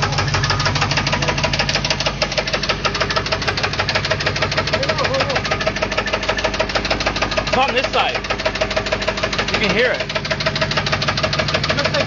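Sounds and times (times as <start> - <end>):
engine running with loud knock: 0.0 - 12.0.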